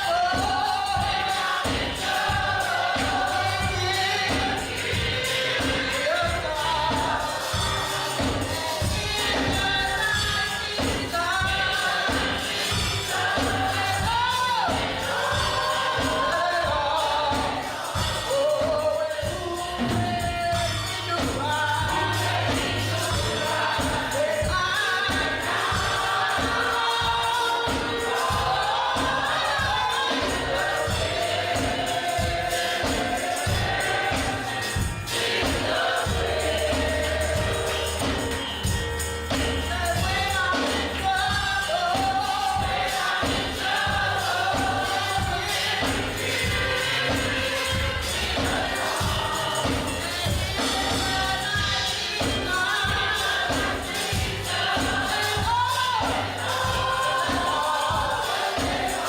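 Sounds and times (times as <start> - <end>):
choir singing gospel: 0.0 - 59.0
steady drum beat: 0.0 - 59.0.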